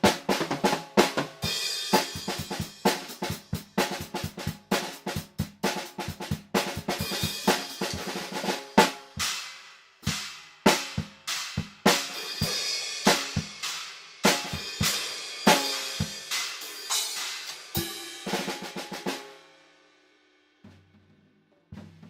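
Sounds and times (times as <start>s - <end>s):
acoustic drum kit playing: 0.0s - 19.4s, 20.6s - 22.0s.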